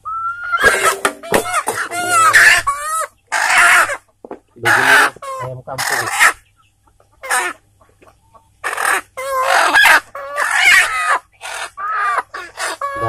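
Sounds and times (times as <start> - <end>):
chickens squawking and clucking: 0.0 - 13.0.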